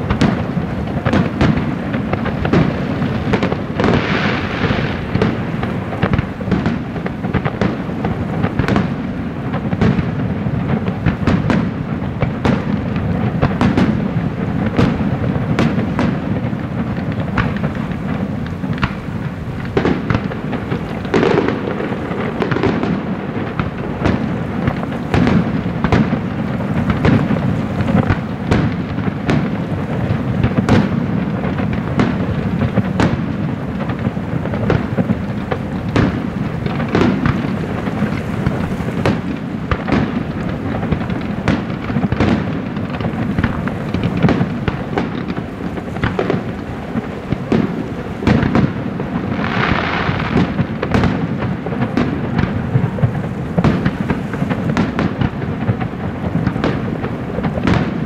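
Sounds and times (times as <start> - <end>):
continuous low rumble: 0.0 - 49.3
firework shells bursting: 0.0 - 58.0.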